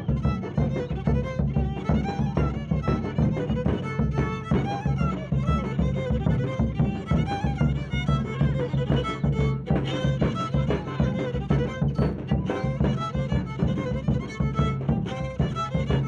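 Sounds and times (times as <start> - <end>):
folk dance fiddle tune: 0.0 - 16.0
pulsing low accompaniment: 0.0 - 16.0.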